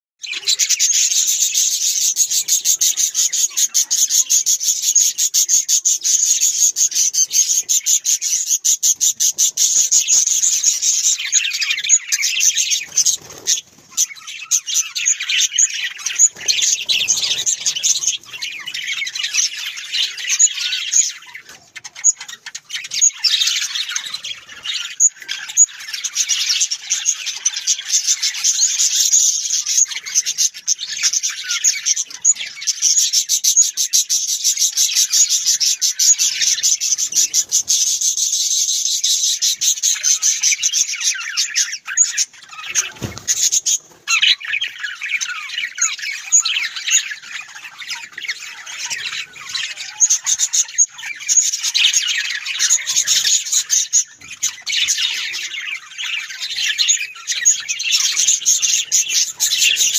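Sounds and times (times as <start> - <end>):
budgerigars chattering: 0.2 - 59.9.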